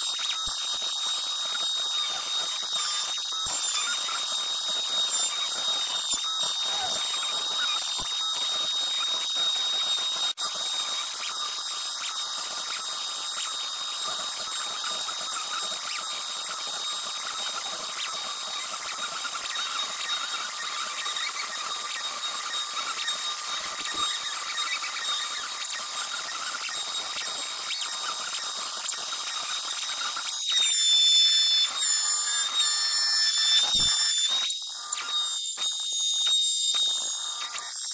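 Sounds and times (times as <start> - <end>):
router whining while cutting wood: 0.0 - 37.9.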